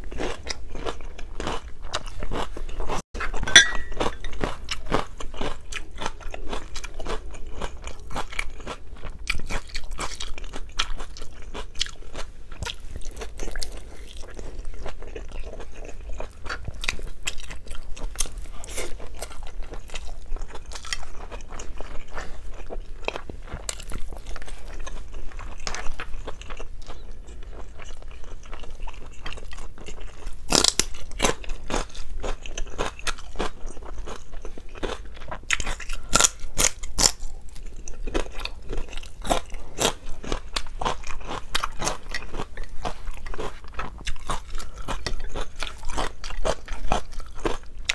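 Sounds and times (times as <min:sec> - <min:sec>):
crunchy chewing of food: 0:00.0 - 0:47.9.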